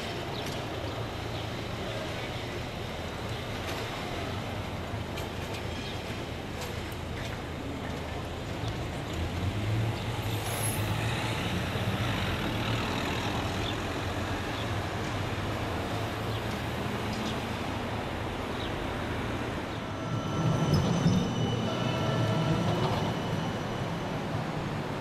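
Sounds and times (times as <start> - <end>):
traffic tyre and engine noise: 0.0 - 25.0.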